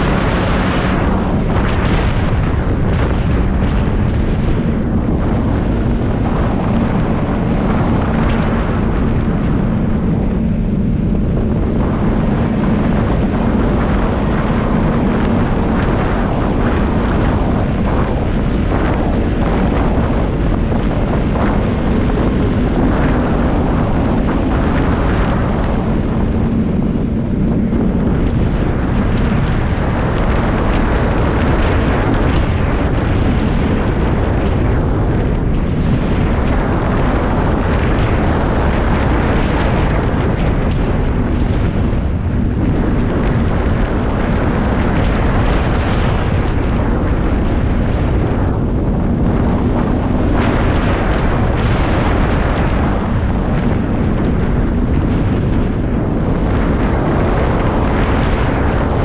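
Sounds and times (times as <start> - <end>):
snowmobile engine hum: 0.0 - 59.0
wind buffeting microphone: 0.0 - 59.0.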